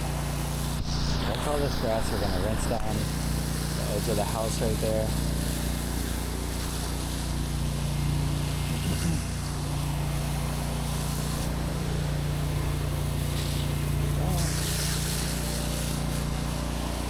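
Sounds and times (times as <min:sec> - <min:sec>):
pressure washer engine running: 0:00.0 - 0:17.0
water spray hissing on grass: 0:00.3 - 0:17.0.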